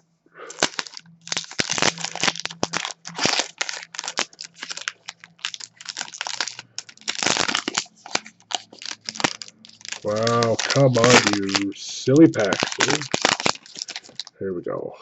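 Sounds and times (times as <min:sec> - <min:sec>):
foil wrapper crinkling: 0:00.4 - 0:14.4.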